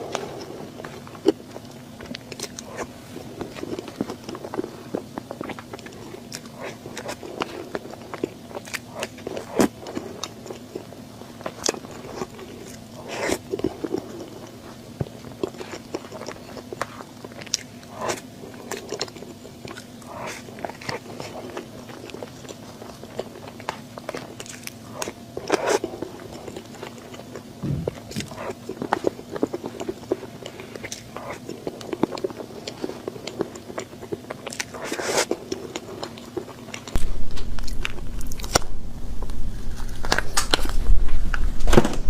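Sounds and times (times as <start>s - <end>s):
crunchy chewing and biting: 0.0s - 41.4s.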